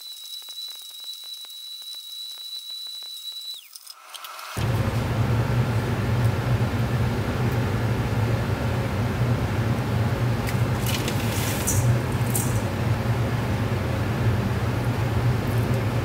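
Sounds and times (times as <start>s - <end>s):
steady mechanical drone: 2.7s - 16.0s.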